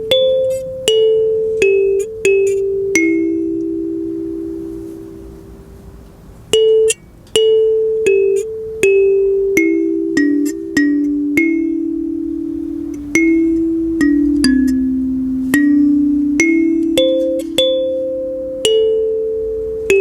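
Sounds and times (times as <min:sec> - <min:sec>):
kalimba melody: 0:00.0 - 0:05.8, 0:06.5 - 0:20.0.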